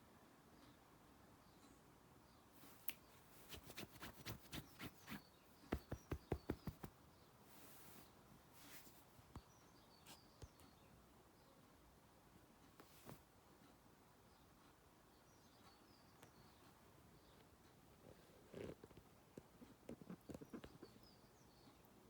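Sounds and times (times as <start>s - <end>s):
faint bird chirps: 0.5s - 22.0s.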